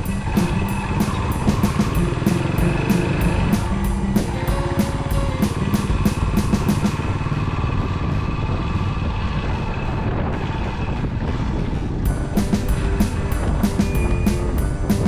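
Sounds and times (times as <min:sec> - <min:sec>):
background music with drum beat: 0:00.0 - 0:15.0
motorcycle engine running: 0:00.0 - 0:15.0.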